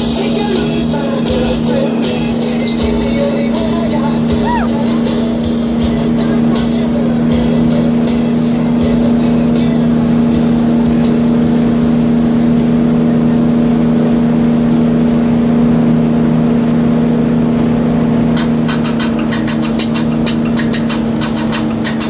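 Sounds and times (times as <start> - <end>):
boat engine droning: 0.0 - 22.0
wake water rushing: 0.0 - 22.0.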